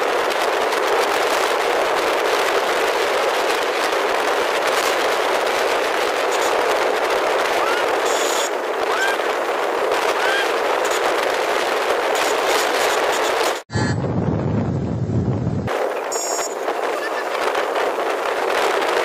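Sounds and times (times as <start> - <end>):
road traffic: 0.0 - 19.0
wind on microphone: 0.0 - 19.0.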